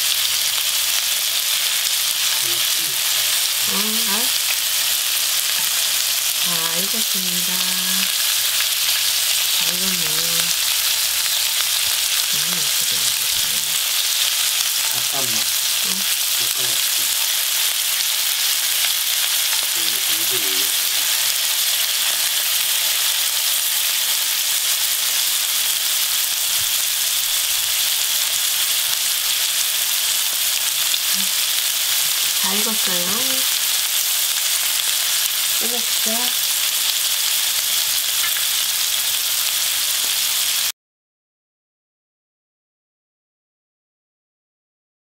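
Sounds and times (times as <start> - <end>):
meat sizzling in oil: 0.0 - 40.7.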